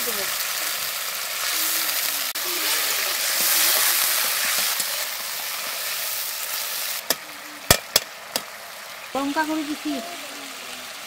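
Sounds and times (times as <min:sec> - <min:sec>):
hot oil sizzling in a pan: 0:00.0 - 0:11.0.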